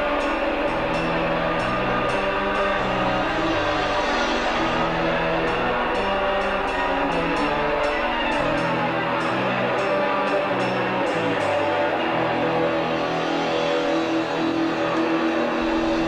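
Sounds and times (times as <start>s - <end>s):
live rock band music: 0.0s - 16.0s.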